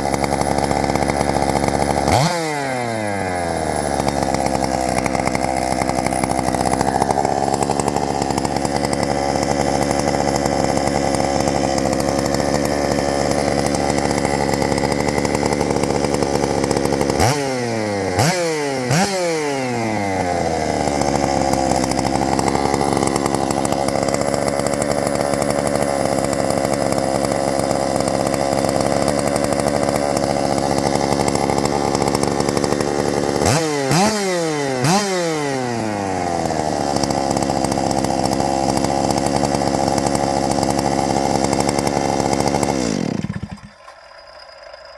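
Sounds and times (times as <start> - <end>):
chainsaw running with throttle blips: 0.0 - 44.9.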